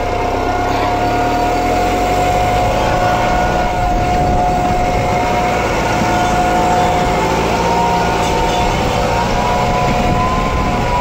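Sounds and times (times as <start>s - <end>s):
high whining tones: 0.0s - 11.0s
tractor diesel engine rumbling: 0.0s - 11.0s.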